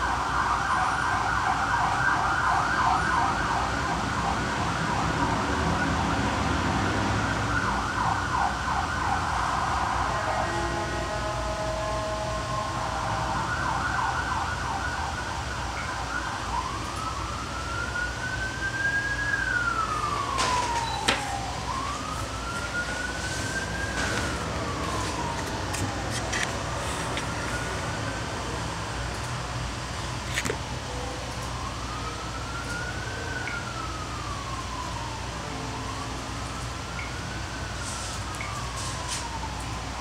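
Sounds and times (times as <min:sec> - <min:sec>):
siren wailing: 0:00.0 - 0:29.2, 0:30.4 - 0:40.0.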